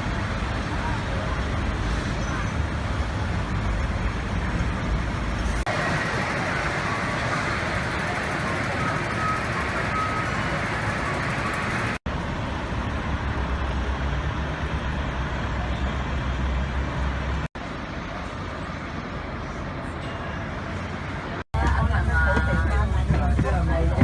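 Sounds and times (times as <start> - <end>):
road traffic with engine rumble: 0.0 - 24.0.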